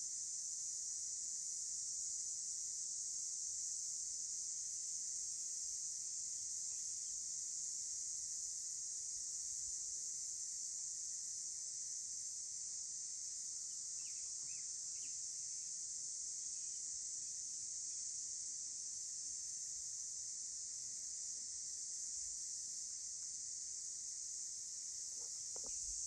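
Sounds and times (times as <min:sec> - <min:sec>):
chorus of insects: 0:00.0 - 0:26.0.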